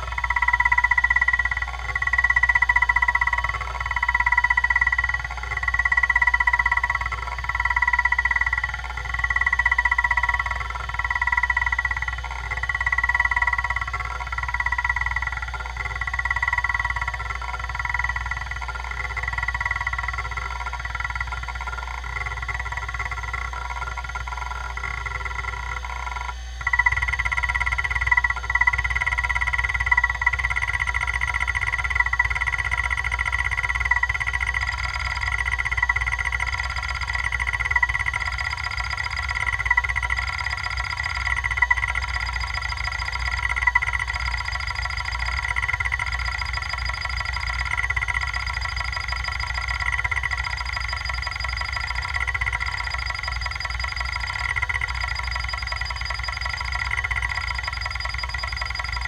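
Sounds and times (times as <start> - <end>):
hard drive heads chattering: 0.0 - 59.0
hard drive whine: 0.0 - 59.0.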